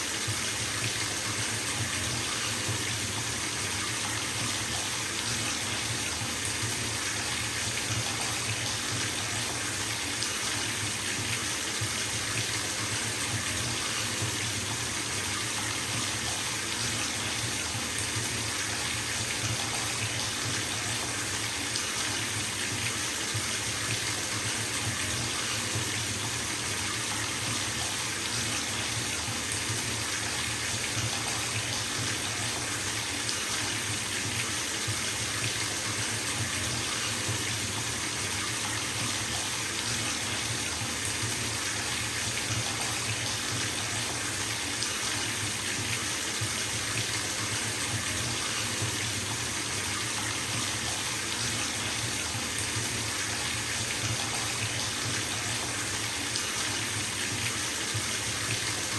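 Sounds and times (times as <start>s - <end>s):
tap water filling bathtub: 0.0s - 58.9s.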